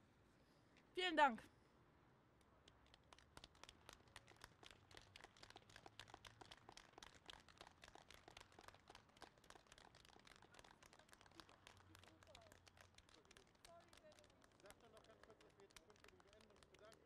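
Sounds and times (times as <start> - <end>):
small crowd applauding: 2.6 - 17.0.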